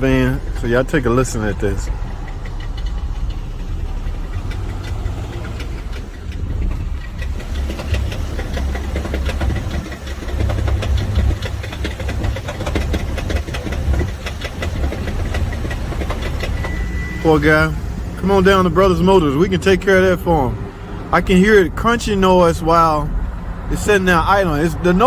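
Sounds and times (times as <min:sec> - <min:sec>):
engine knocking ticks: 0:00.0 - 0:25.0
low engine rumble idling: 0:00.0 - 0:25.0.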